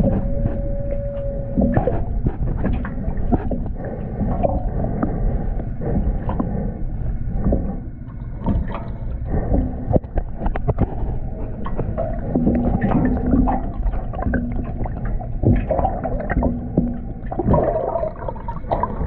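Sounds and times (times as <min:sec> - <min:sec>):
muffled underwater water rush: 0:00.0 - 0:19.0.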